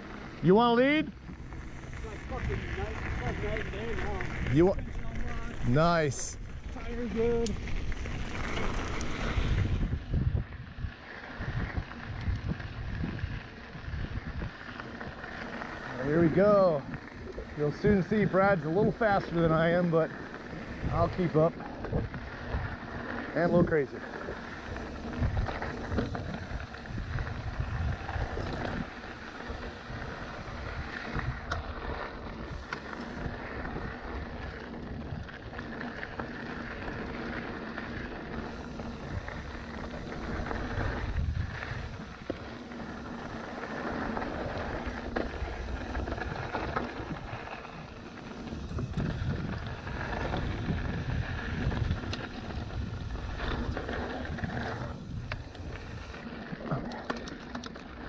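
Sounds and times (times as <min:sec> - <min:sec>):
wind buffeting microphone: 0:00.0 - 0:57.0
bike tyres on dirt: 0:00.0 - 0:58.0.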